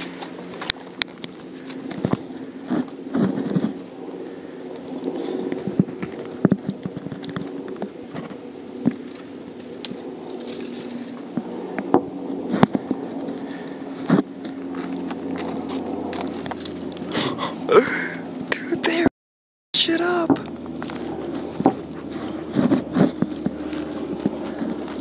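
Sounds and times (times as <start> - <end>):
turboprop engines droning overhead: 0.0 - 19.1, 19.8 - 25.0.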